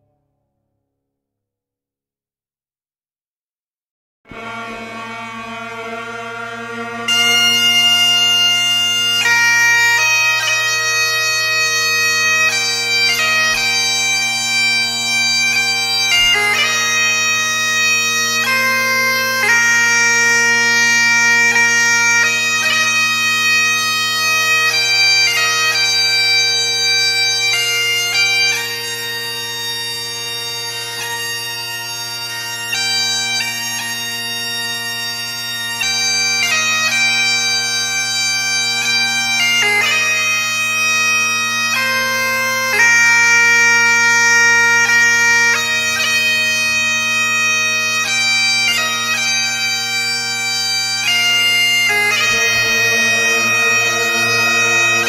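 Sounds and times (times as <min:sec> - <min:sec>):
bagpipes playing slow melody: 0:04.3 - 0:55.0.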